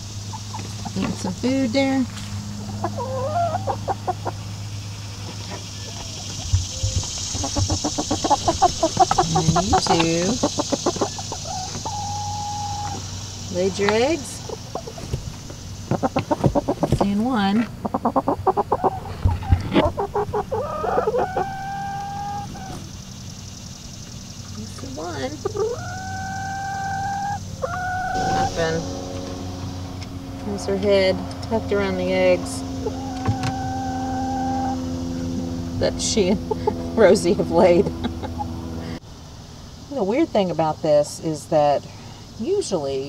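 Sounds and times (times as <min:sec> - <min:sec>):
hen clucking: 0:00.0 - 0:23.2, 0:24.5 - 0:38.6
hen calling: 0:00.2 - 0:23.1, 0:24.6 - 0:38.6.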